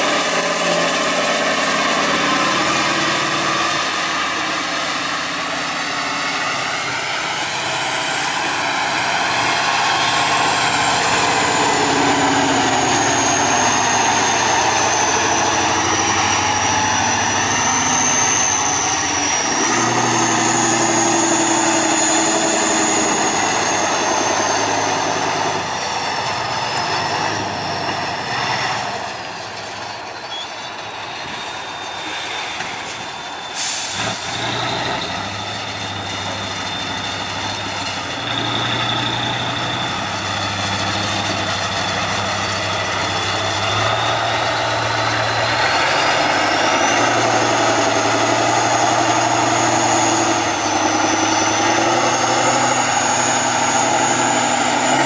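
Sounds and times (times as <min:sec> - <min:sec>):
high engine whistle: 0:00.0 - 0:28.8, 0:30.1 - 0:55.0
diesel truck engine under load: 0:00.0 - 0:55.0.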